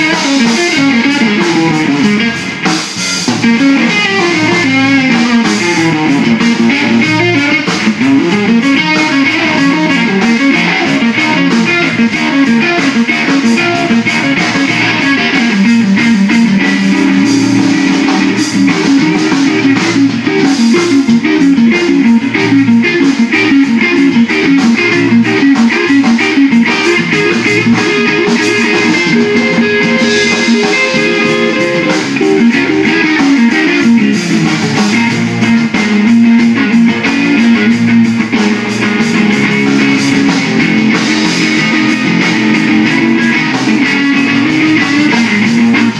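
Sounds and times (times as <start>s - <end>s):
bass guitar: 0.0s - 45.9s
drums: 0.0s - 45.9s
electric guitar: 0.0s - 45.9s.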